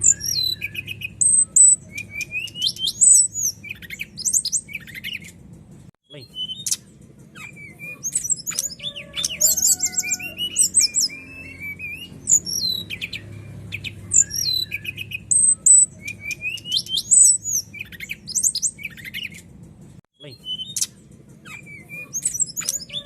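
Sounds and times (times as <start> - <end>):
songbird singing whistled notes: 0.0 - 5.4, 6.1 - 19.5, 20.2 - 23.0.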